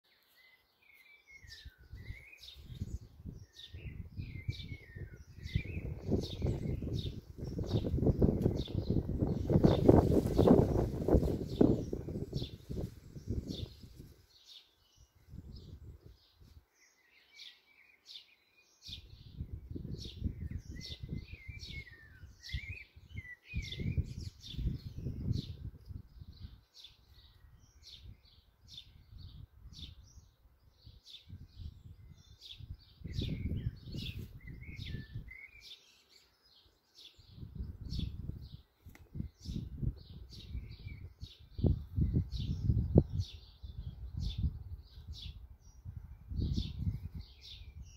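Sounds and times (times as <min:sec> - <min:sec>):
blackbird singing: 0:00.1 - 0:47.9
sparrows chirping: 0:00.1 - 0:47.9.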